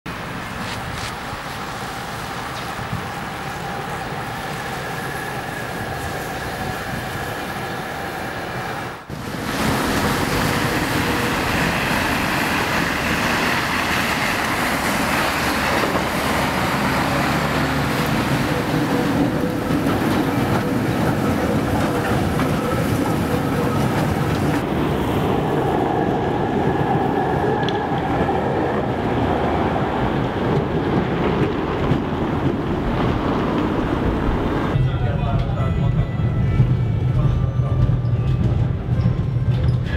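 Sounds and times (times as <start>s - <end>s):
tram wheels rumbling: 0.1s - 39.9s.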